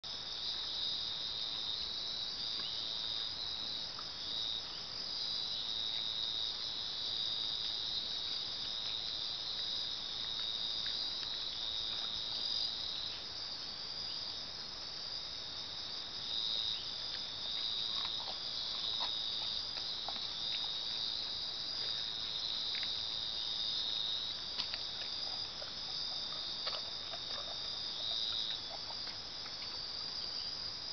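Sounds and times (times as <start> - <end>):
night insects trilling: 0.0 - 30.9
faint ticks and rustles: 0.3 - 14.5, 16.2 - 30.8.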